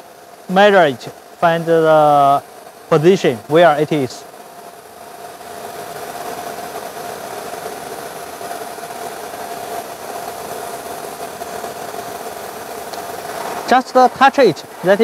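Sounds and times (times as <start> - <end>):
cnc router humming: 0.0 - 15.0
thin steady whine: 0.0 - 15.0.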